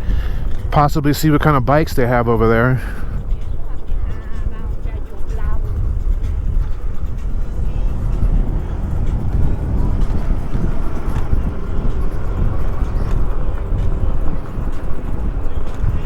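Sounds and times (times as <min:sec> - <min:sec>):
electric bike tyre rumble: 0:00.0 - 0:16.0
wind rush on microphone: 0:00.0 - 0:16.0.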